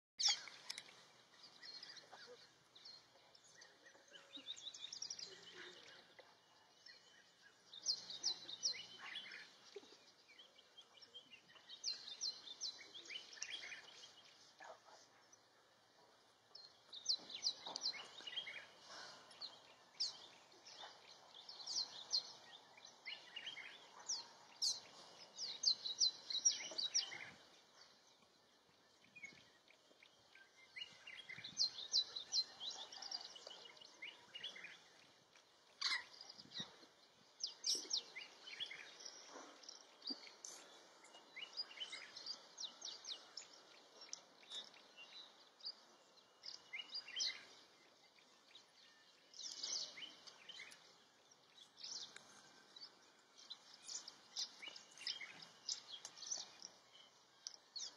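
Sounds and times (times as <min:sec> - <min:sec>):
birds chirping: 0:00.2 - 0:57.9
faint background noise: 0:00.2 - 0:57.9.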